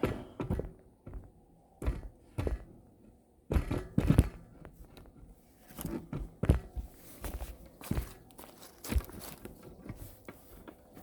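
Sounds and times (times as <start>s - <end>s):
handling thuds and knocks: 0.0s - 11.0s.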